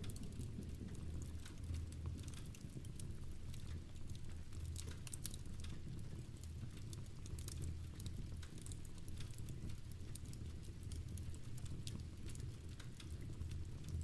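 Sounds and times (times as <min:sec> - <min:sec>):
fireplace fire crackling: 0:00.0 - 0:14.0
rain pattering: 0:00.0 - 0:14.0.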